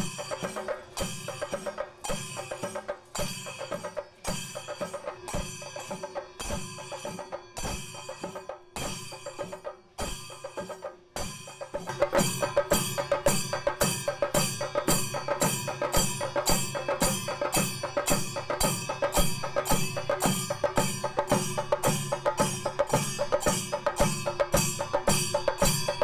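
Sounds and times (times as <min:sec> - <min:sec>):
drums beaten with sticks: 0:00.0 - 0:26.0
hand cymbals ringing: 0:00.0 - 0:26.0.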